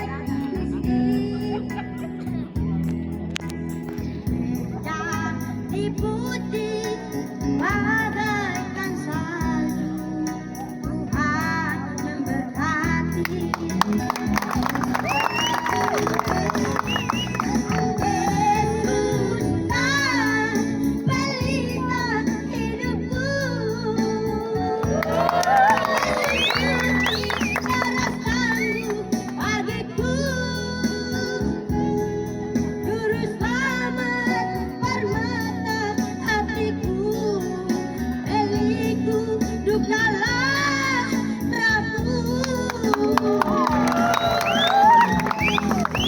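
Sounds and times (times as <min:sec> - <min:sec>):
instrumental backing: 0:00.0 - 0:46.0.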